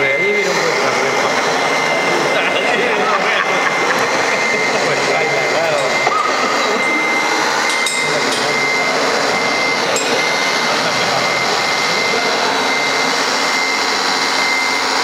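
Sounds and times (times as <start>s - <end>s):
electric motor whirring: 0.0s - 15.0s
thin high whine: 0.0s - 15.0s.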